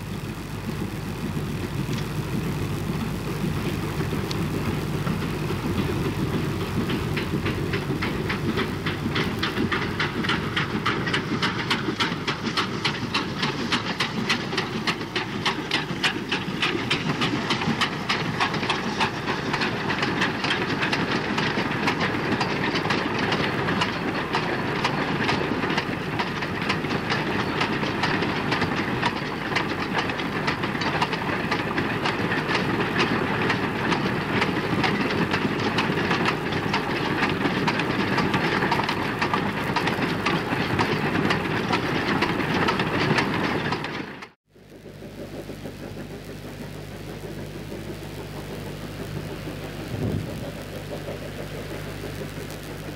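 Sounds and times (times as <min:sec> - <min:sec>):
train wheels clattering on rails: 0:00.6 - 0:44.4.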